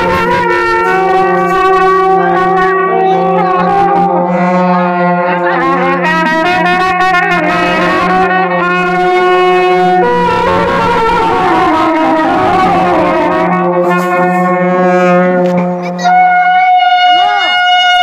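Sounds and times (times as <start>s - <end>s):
brass band playing melody: 0.0s - 18.0s
low held note: 0.0s - 18.0s.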